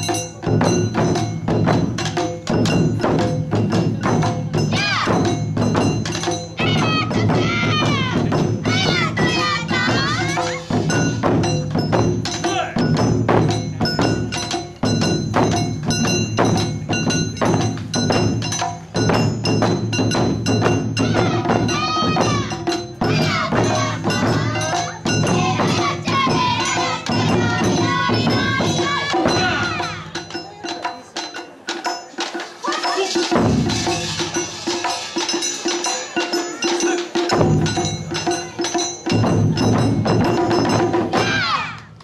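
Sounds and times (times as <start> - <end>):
drum beating fast rhythm: 0.0 - 42.0
ringing metal percussion: 0.0 - 42.0.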